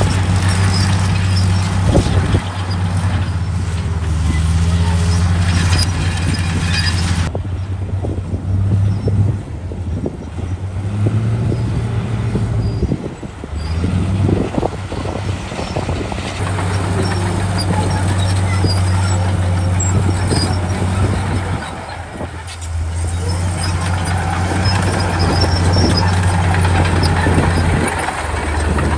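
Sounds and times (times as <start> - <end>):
heavy diesel engine running: 0.0 - 8.4, 9.4 - 28.9.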